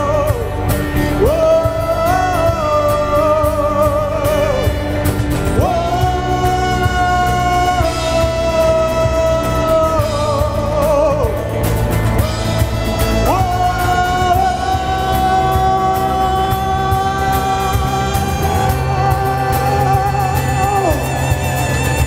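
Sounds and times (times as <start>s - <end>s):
bass and drums: 0.0s - 22.0s.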